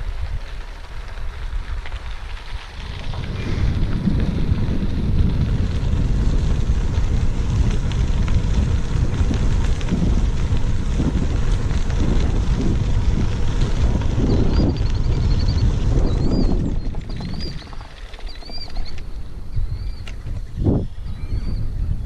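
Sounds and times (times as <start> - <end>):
faint tyre noise on trail: 0.0 - 22.0
wind buffeting microphone: 0.0 - 22.0.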